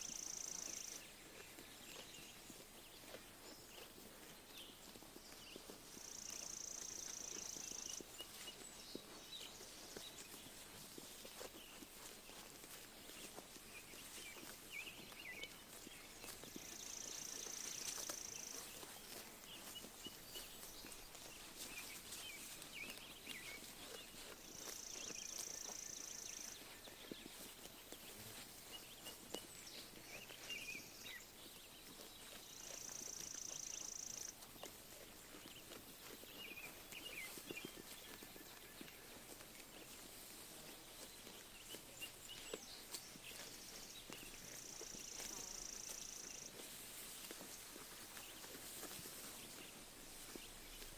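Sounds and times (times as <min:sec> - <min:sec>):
birds chirping: 0:00.0 - 0:10.6, 0:11.6 - 0:46.6
sheep chewing grass: 0:00.0 - 0:50.9.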